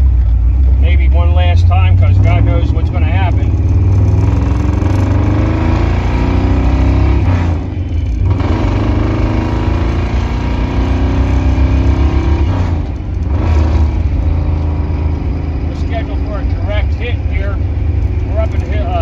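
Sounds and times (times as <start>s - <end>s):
car engine accelerating through gears: 0.0s - 19.0s.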